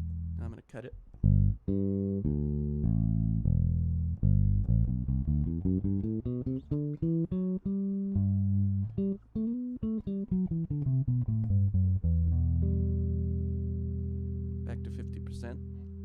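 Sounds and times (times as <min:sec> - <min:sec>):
electric bass notes: 0:00.0 - 0:16.0.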